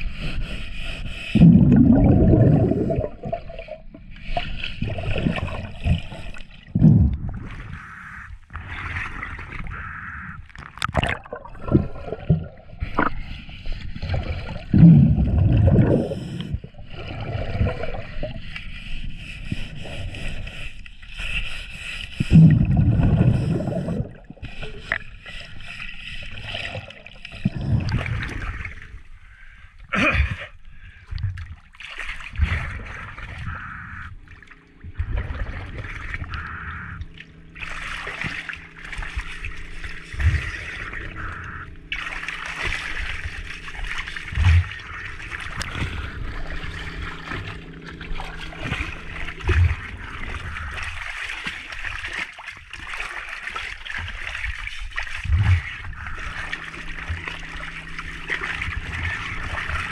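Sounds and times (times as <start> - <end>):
exhale bubbling rumble: 1.3 - 18.4, 22.2 - 25.1, 26.3 - 29.2, 31.1 - 59.9.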